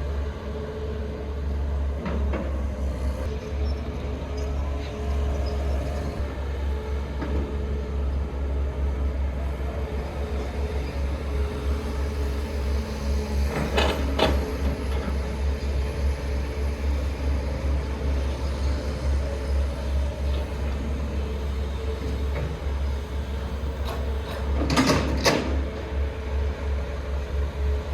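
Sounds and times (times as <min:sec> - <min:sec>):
diesel engine rumbling: 0:00.0 - 0:27.9.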